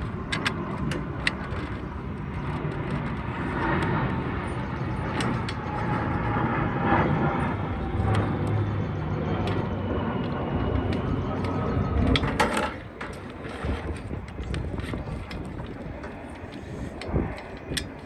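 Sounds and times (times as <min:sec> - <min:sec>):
motor vehicle rumbling: 0:00.0 - 0:18.0.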